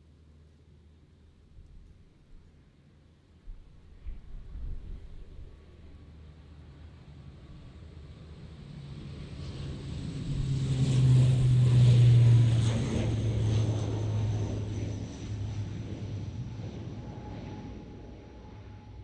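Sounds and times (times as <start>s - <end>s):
turboprop airliner propeller drone: 0.0s - 19.0s.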